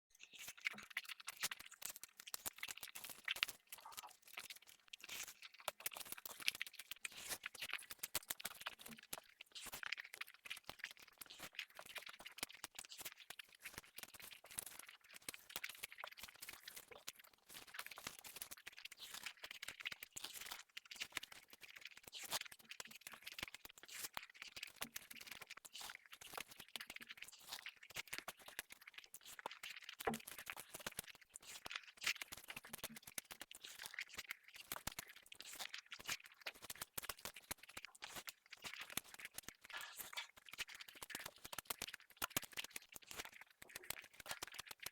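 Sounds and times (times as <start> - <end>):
chewing and crunching food: 0.1 - 44.9.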